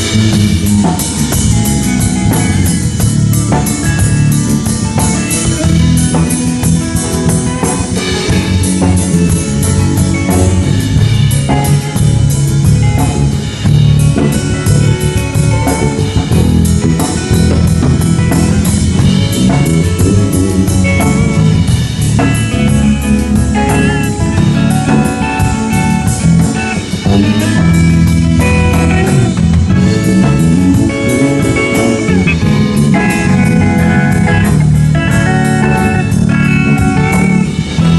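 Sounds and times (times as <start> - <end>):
drum kit playing rock groove: 0.0 - 37.9
guitar playing: 0.0 - 37.9.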